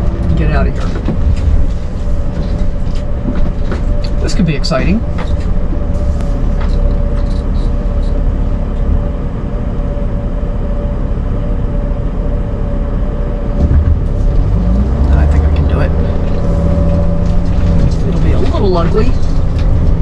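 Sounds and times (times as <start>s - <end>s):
engine and road noise in cab: 0.0s - 20.0s.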